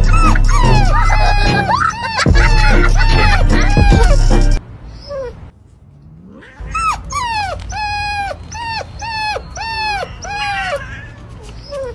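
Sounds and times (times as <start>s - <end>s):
dog whining: 0.0s - 5.5s, 6.2s - 11.9s.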